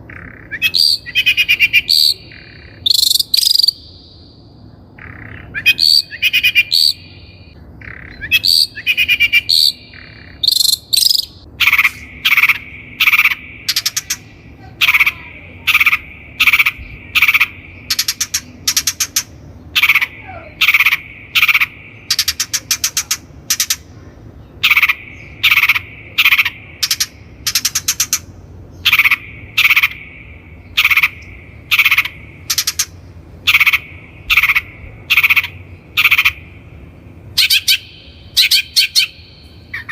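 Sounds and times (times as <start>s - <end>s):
faint insect-like drone: 0.0s - 39.9s
shrike calling: 0.0s - 39.9s.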